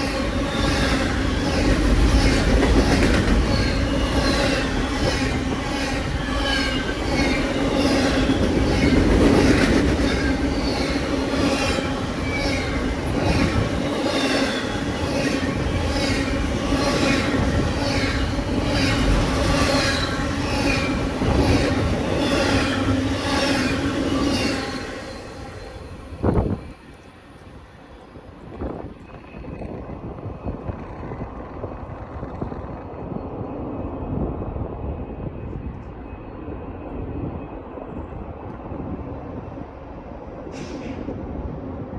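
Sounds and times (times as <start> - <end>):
train wheels clattering on rails: 0.0 - 33.9, 40.4 - 41.2
train wheels whining: 0.0 - 41.5.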